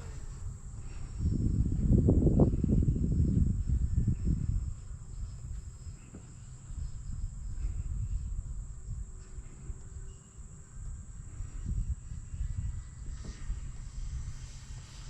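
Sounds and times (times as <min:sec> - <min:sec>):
high-pitched insect drone: 0:00.0 - 0:15.0
wind buffeting microphone: 0:00.0 - 0:15.0.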